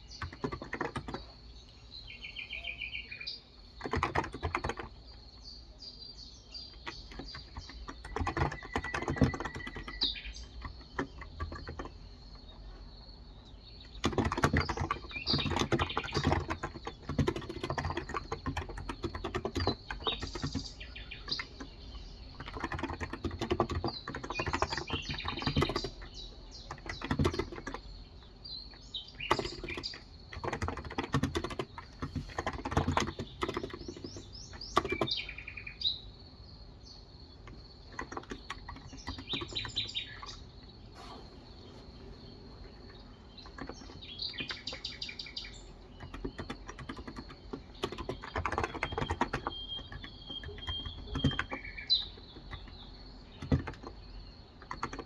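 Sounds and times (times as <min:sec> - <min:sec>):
keyboard typing: 0:00.0 - 0:02.8, 0:03.6 - 0:05.4, 0:06.6 - 0:35.6, 0:37.2 - 0:55.0
birds chirping: 0:00.0 - 0:55.0.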